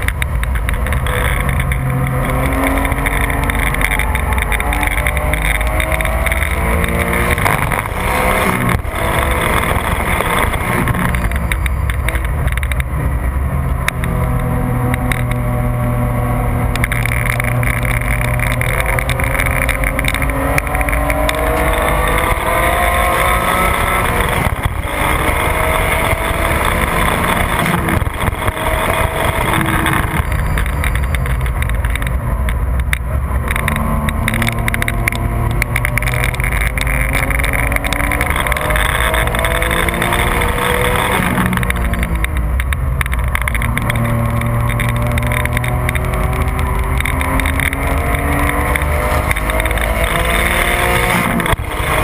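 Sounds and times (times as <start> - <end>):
car engine at full throttle: 0.0 - 52.0
tyre and wind noise: 0.0 - 52.0.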